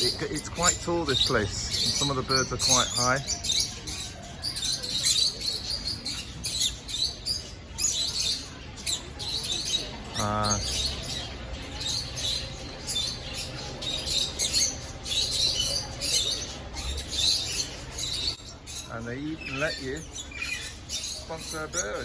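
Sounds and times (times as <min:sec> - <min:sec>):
parrots chirping and chattering: 0:00.0 - 0:22.0.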